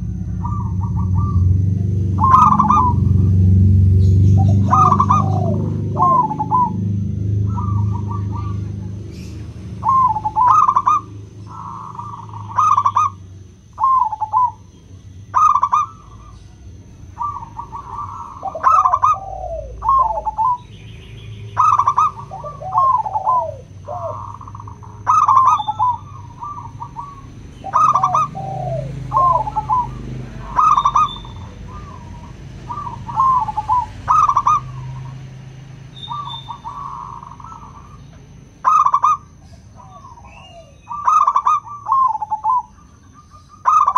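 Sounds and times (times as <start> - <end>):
doves cooing: 0.0 - 43.9.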